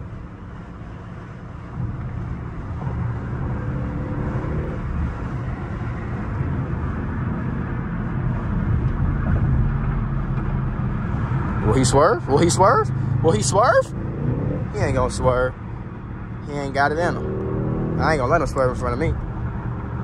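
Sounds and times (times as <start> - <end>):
car engine and exhaust from cabin: 0.0 - 20.0.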